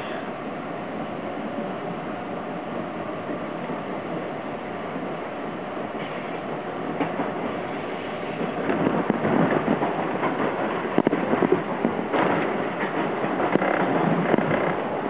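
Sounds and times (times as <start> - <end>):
subway train rumbling on track: 0.0 - 15.0.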